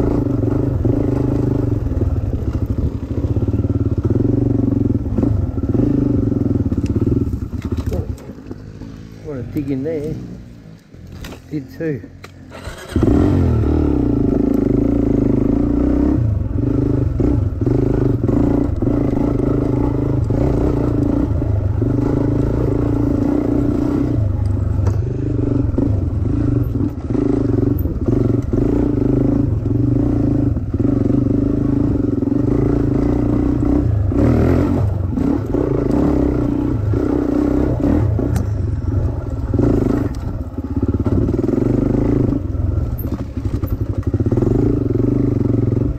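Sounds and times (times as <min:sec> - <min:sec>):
dirt bike engine under throttle: 0:00.0 - 0:45.9.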